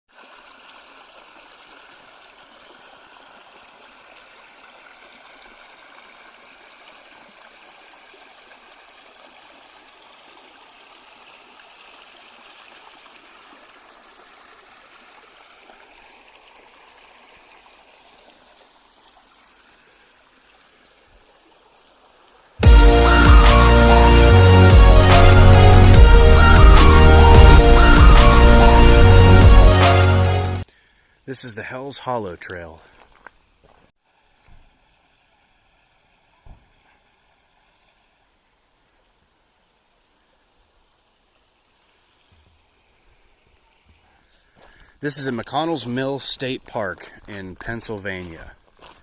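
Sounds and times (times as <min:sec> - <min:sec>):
creek water babbling: 0:00.1 - 0:49.0.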